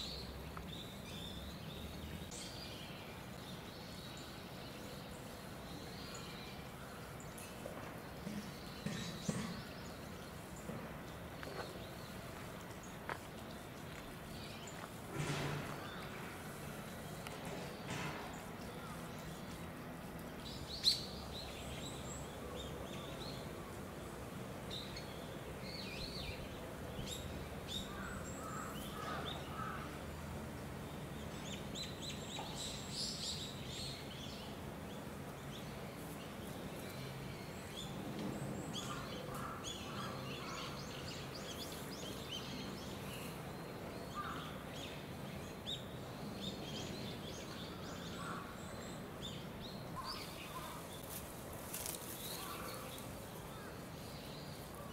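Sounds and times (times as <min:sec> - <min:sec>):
small birds chirping: 0:00.0 - 0:54.9
steady low background noise: 0:00.0 - 0:54.9.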